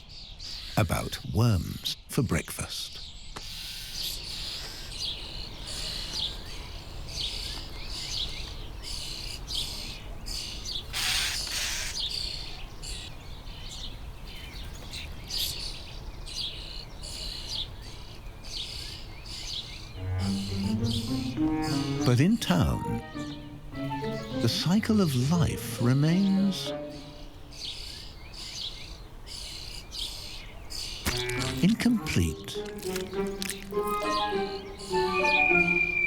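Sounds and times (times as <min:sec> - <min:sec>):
bird chicks begging calls: 0:03.0 - 0:36.0.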